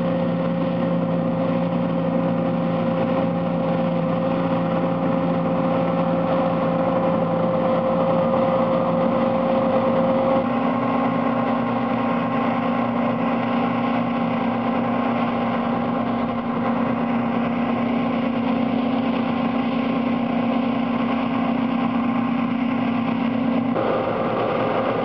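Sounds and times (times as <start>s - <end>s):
combine harvester drone: 0.0s - 25.0s
steady machine whine: 0.0s - 25.0s.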